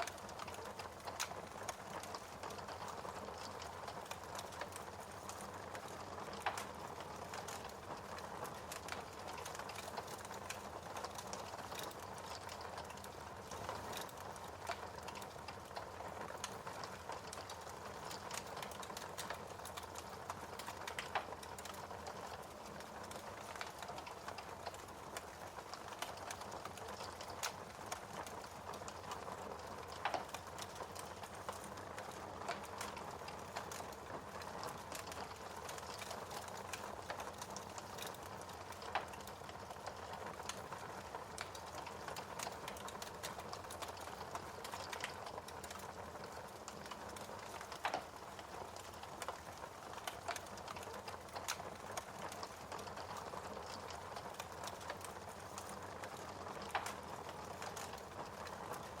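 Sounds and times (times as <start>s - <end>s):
loud fire snaps: 0.0s - 58.8s
wood fire crackling: 0.0s - 59.0s.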